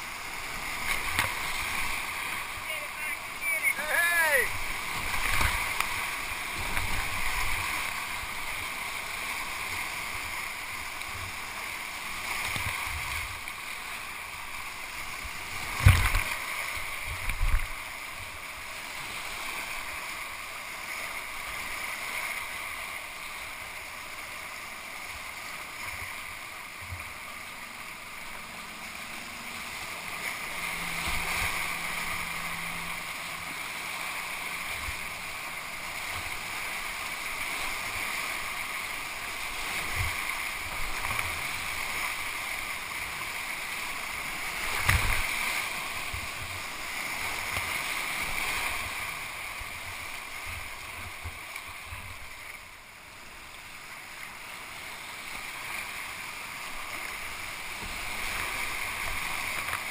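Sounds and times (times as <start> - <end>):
whitewater rapids rushing: 0.0 - 59.9.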